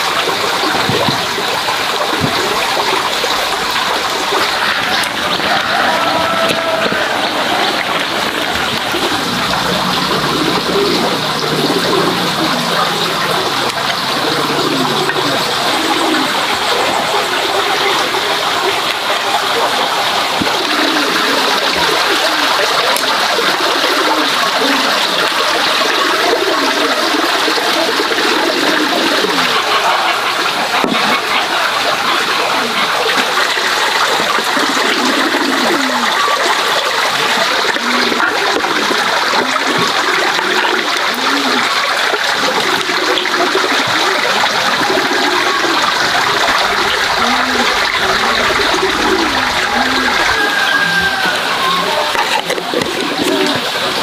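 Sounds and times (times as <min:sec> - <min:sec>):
running water gurgling: 0:00.0 - 0:54.0.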